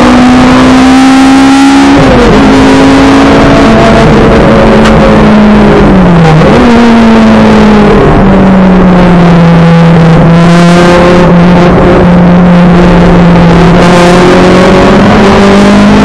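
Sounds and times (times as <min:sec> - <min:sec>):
race car engine running hard: 0:00.0 - 0:16.0
road and wind noise: 0:00.0 - 0:16.0.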